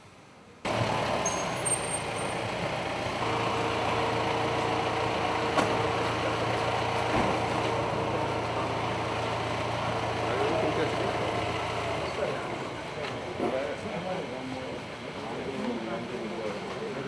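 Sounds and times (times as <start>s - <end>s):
vehicle engine idling: 0.7s - 15.4s.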